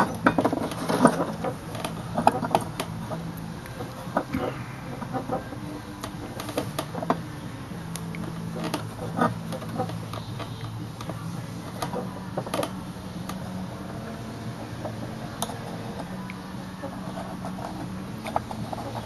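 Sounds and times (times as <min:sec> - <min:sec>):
steady low hum: 0:01.2 - 0:19.0.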